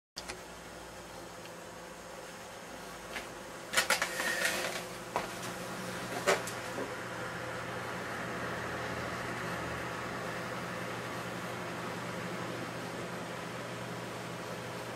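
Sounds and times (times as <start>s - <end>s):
computer fans humming: 0.2s - 14.9s.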